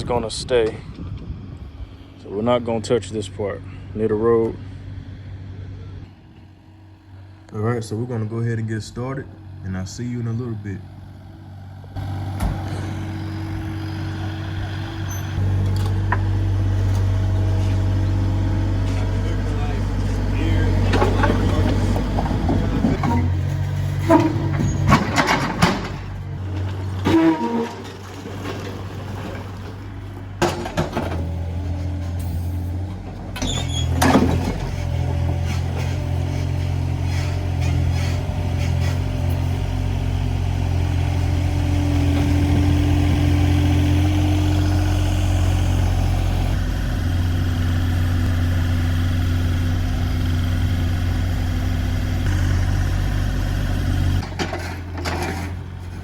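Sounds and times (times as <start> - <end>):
construction machine engine running: 0.0 - 56.0.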